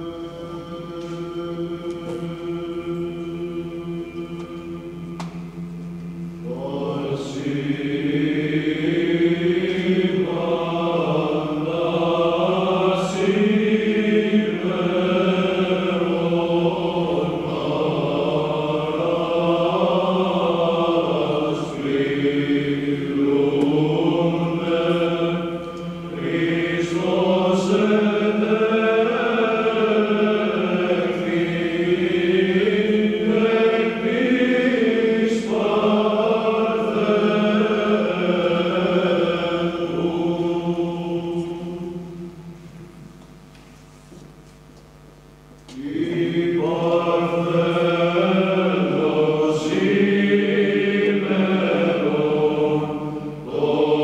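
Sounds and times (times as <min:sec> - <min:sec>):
male choir chanting a cappella: 0:00.0 - 0:42.9, 0:45.7 - 0:54.0
low vocal drone: 0:00.0 - 0:43.4, 0:45.2 - 0:54.0.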